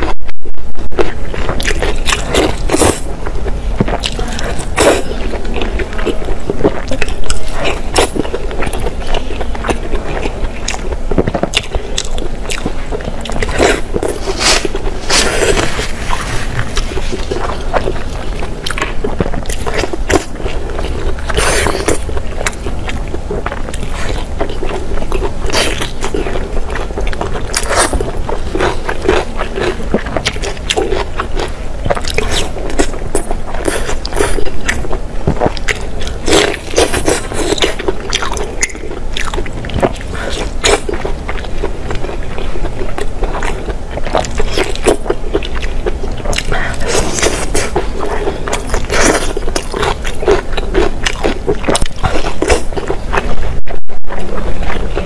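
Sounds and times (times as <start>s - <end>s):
person biting and chewing food: 0.0s - 55.0s.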